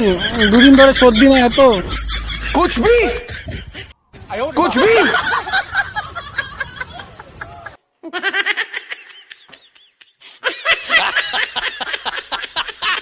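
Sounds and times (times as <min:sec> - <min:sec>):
laughter: 0:00.0 - 0:04.0, 0:04.8 - 0:13.0.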